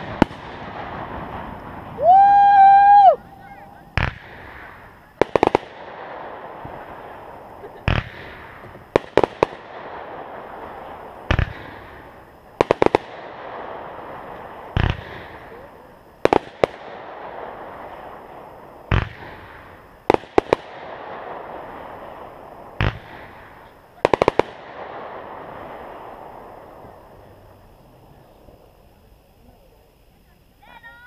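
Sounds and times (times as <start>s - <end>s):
crackling hiss of fireworks: 0.0s - 31.0s
firework bursting cracks: 0.0s - 31.0s.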